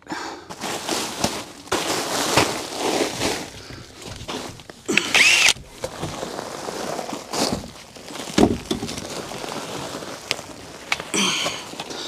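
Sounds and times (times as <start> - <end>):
person crawling rustling and knocking: 0.5 - 4.9, 5.6 - 11.9.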